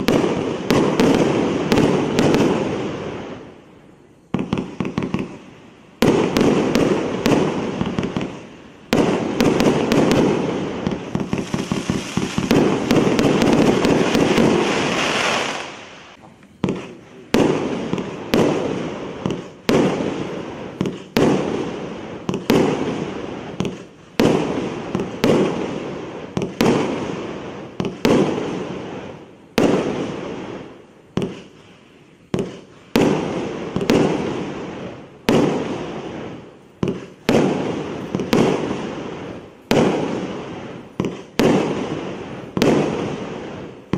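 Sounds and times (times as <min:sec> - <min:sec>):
fireworks cake firing: 0:00.0 - 0:43.9.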